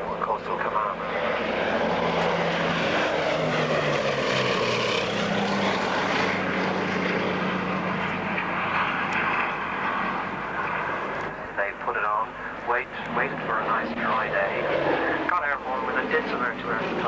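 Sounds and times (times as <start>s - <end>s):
propeller aircraft engines running: 0.0s - 17.0s.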